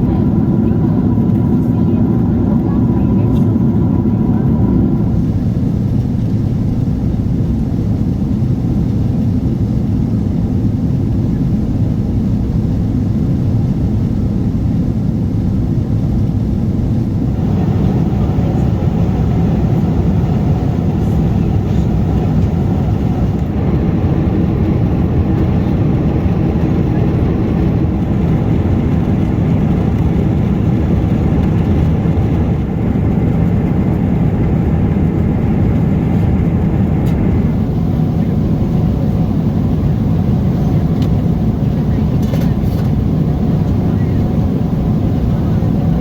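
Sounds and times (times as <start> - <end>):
airplane cabin roar: 0.0 - 46.0.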